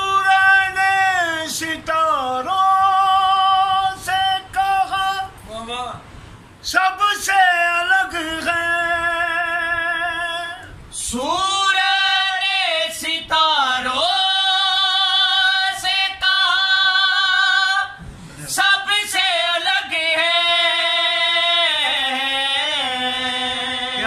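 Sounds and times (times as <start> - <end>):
men singing unaccompanied: 0.0 - 6.0, 6.6 - 24.0.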